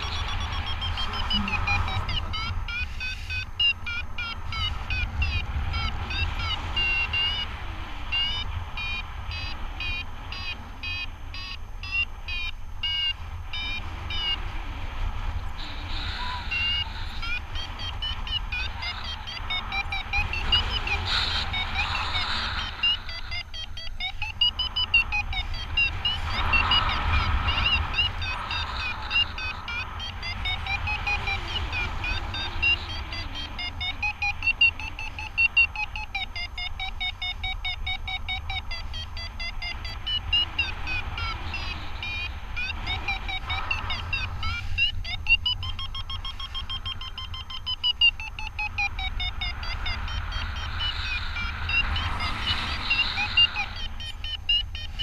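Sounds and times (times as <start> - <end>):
variometer beeping rapidly: 0.0 - 14.5, 15.4 - 55.0.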